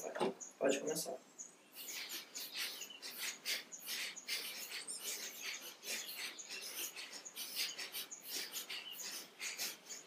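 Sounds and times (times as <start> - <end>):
forceful nasal breath puffs: 1.7 - 10.0.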